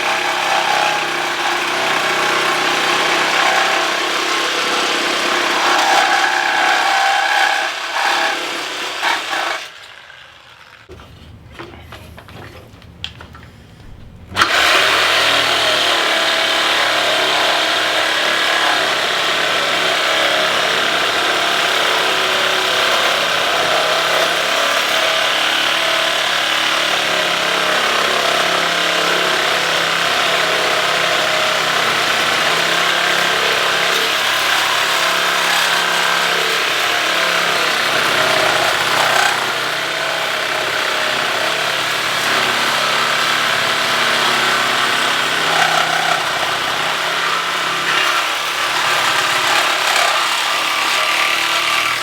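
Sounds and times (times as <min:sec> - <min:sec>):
power saw cutting steel: 0:00.0 - 0:10.9, 0:14.4 - 0:52.0.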